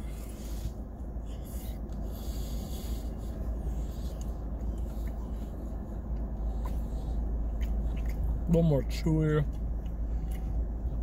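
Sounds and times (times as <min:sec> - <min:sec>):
car idling inside cabin: 0:00.0 - 0:11.0.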